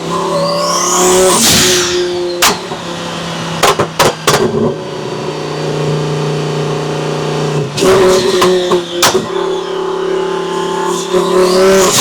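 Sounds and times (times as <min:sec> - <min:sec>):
sports car engine running: 0:02.0 - 0:11.7.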